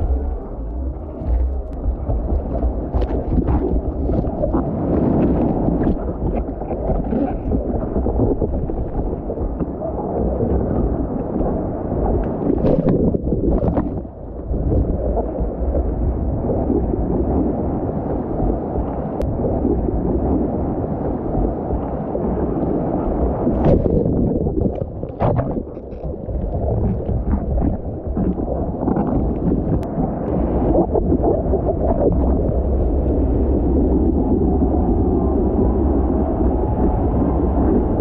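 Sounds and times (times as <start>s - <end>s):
wind rushing over camera: 0.0s - 38.0s.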